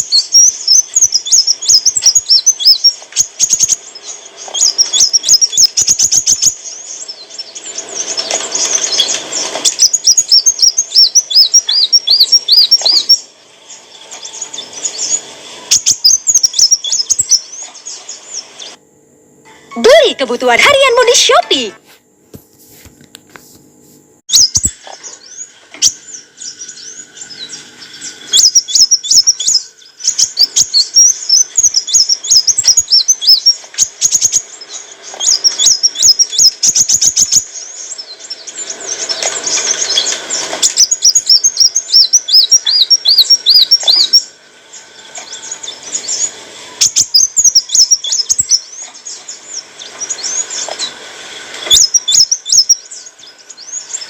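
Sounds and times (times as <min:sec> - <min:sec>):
sunbird twittering chirps and trills: 0:00.0 - 0:18.8, 0:24.3 - 0:54.0.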